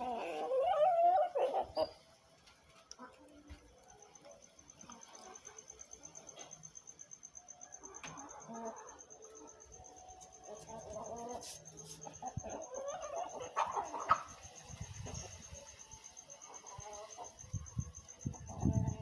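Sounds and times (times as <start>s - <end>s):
chickens clucking: 0.0s - 6.7s, 7.8s - 19.0s.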